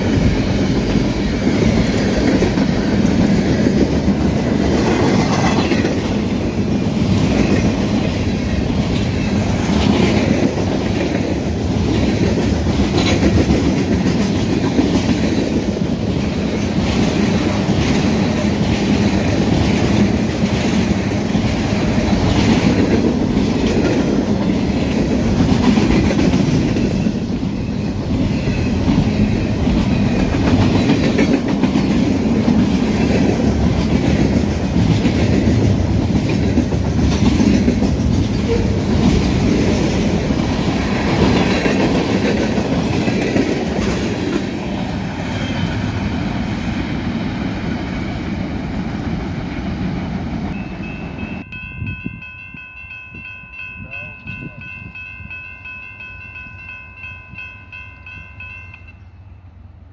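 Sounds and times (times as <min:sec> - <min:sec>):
wheels clickety-clack on rail joints: 0:00.0 - 0:51.5
freight train wheels rumbling: 0:00.0 - 0:59.9.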